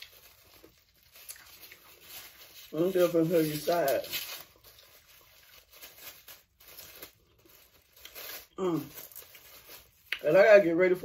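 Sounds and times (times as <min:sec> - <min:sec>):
plastic wrapper tearing and crinkling: 0:00.0 - 0:11.0.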